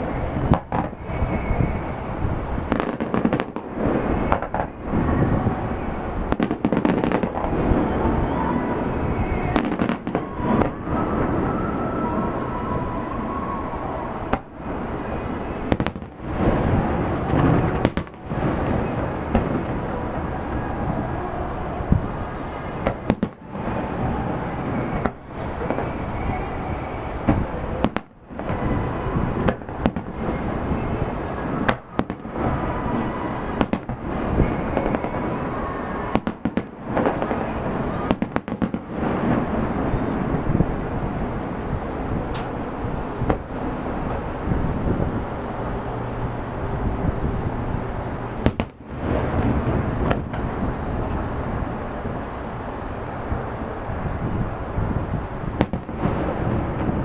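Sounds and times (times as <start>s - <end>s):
fireworks bursts and crackle: 0.0s - 57.0s
sharp fireworks bangs: 0.0s - 57.0s.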